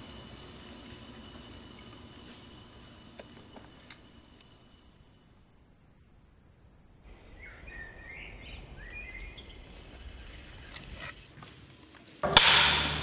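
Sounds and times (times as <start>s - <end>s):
high insect drone: 0.0s - 5.4s, 7.0s - 13.0s.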